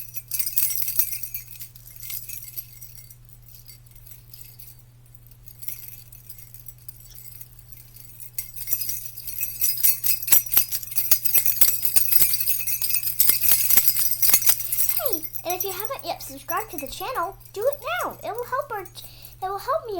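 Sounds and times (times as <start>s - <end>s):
small jingle bells jingling: 0.0s - 19.9s.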